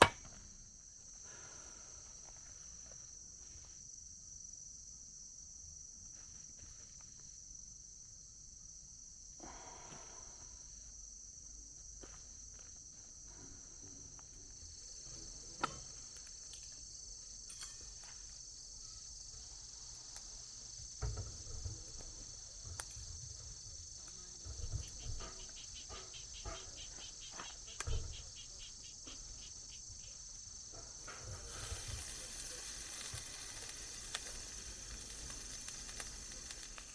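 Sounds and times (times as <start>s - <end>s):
crickets chirping: 0.0s - 36.9s.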